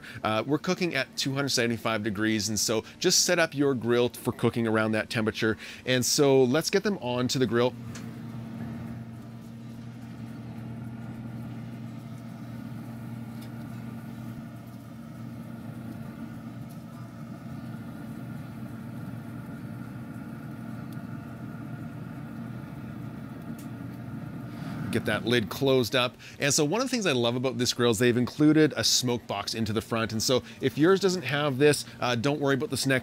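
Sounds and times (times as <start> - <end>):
grill fan humming: 0.0 - 33.0.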